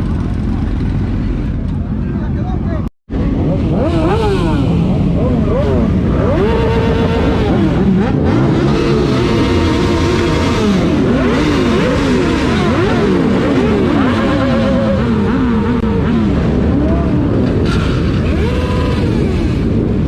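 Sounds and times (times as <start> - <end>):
motorcycle engines revving: 0.0 - 2.4, 3.1 - 20.0.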